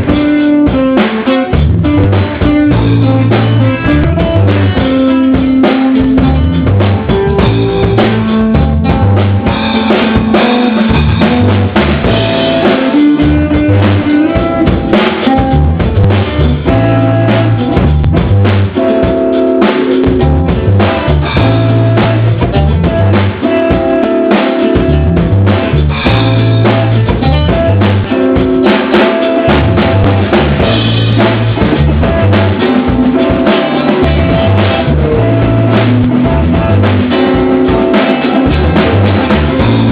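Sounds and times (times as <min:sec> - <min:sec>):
drums and bass music: 0:00.0 - 0:39.9.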